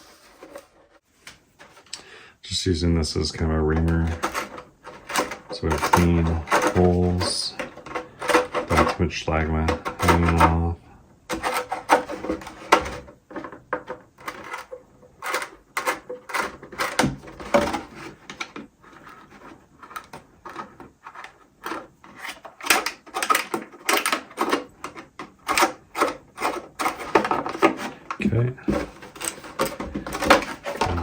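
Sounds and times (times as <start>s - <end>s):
reamer scraping plastic: 0.0s - 1.0s, 3.1s - 31.0s.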